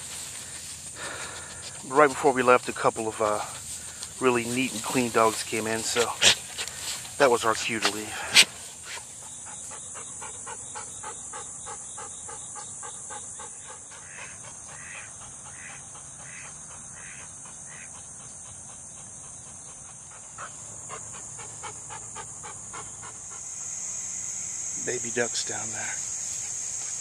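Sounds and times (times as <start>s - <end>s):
insects droning: 0.0s - 27.0s
dog panting: 0.1s - 23.8s.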